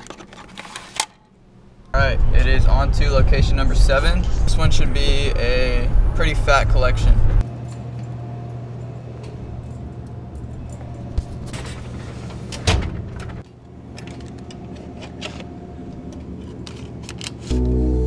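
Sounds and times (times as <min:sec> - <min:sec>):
steady low hum: 0:01.2 - 0:18.0.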